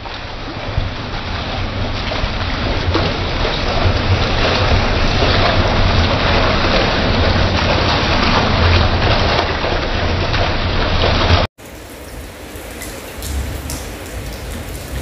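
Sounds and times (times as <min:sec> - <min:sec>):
heavy rain: 0:00.0 - 0:15.0
water gushing onto tiled floor: 0:00.0 - 0:15.0
wind rumbling on microphone: 0:00.0 - 0:15.0.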